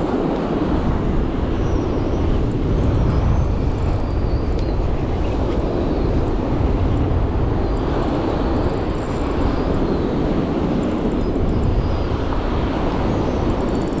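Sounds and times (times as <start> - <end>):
surf on sandy beach: 0.0 - 14.0
wind buffeting microphone: 0.0 - 14.0.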